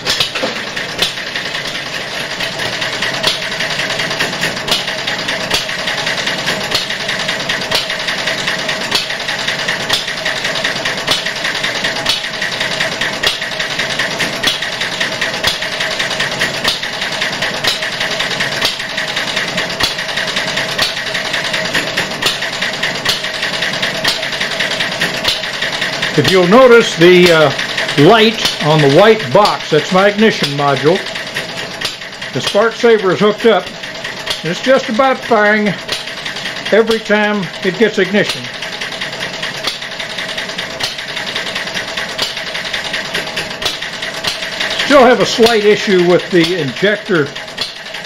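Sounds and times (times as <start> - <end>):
sharp engine clicks: 0.0 - 48.0
small engine mechanical clatter: 0.0 - 48.0.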